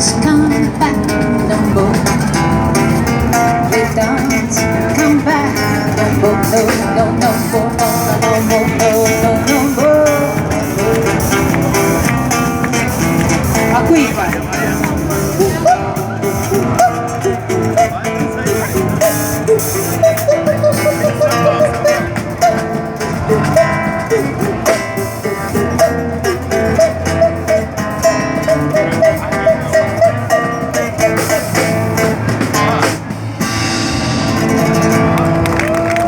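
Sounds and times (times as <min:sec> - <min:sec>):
drums: 0:00.0 - 0:36.0
guitar: 0:00.0 - 0:36.0.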